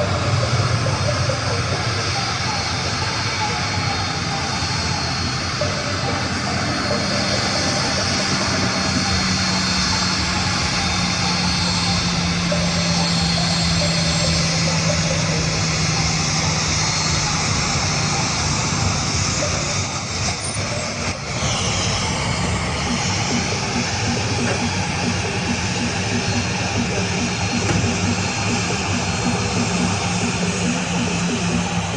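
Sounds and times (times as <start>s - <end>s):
jet airliner engines running: 0.0s - 31.9s
low hum: 0.0s - 31.9s.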